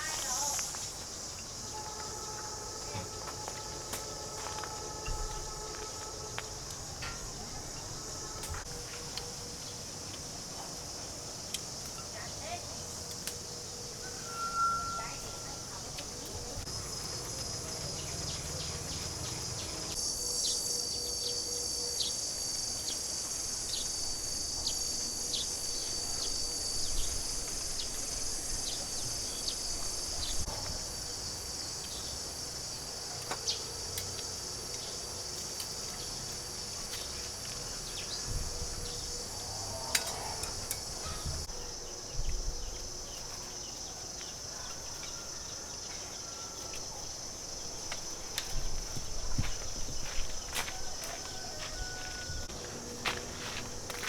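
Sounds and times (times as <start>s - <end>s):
shrill insect chorus: 0.0s - 54.0s.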